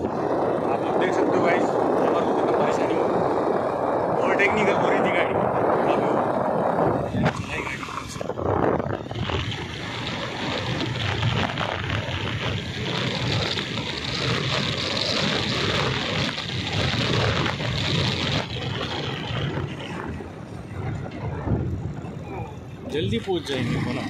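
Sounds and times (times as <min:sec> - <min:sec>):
motorcycle engine: 0:00.0 - 0:24.0
road noise: 0:00.0 - 0:24.0
wind rushing over microphone: 0:00.0 - 0:24.0.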